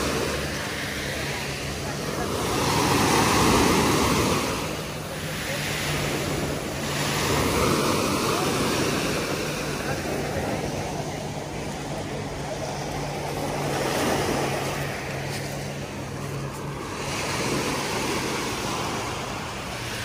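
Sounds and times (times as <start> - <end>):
steady low hum: 0.0 - 20.0
waves washing up pebble beach: 0.0 - 20.0.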